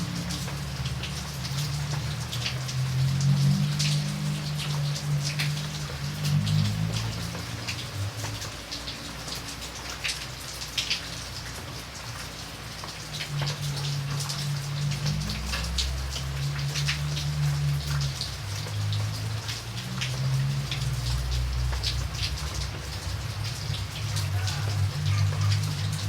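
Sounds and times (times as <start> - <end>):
rain drops ticking on hard surface: 0.0 - 26.0.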